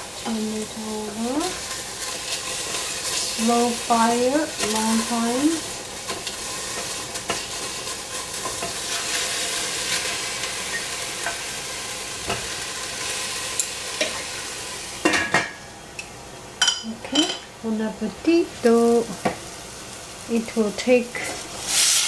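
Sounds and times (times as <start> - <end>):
sausage sizzling in a pan: 0.0 - 22.0.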